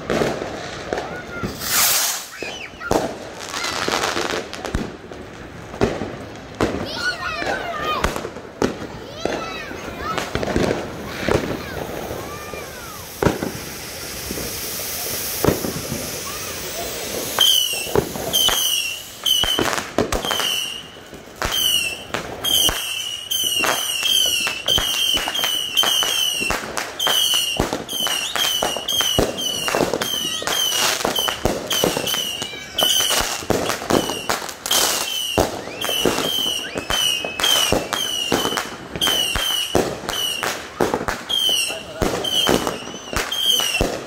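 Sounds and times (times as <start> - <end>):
falling whistles of fireworks: 0.0 - 44.0
fireworks bangs and crackles: 0.0 - 44.0.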